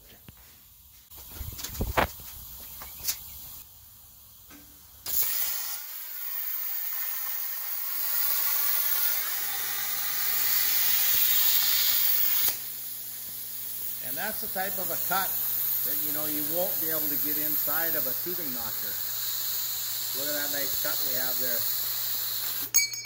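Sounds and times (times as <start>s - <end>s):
plasma cutter arc hissing: 1.2s - 22.7s.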